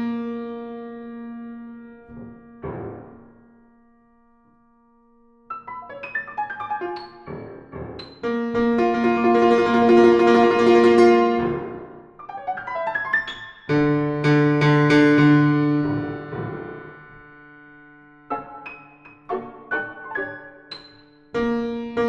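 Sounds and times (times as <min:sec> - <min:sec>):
contemporary classical piano music: 0:00.0 - 0:22.0.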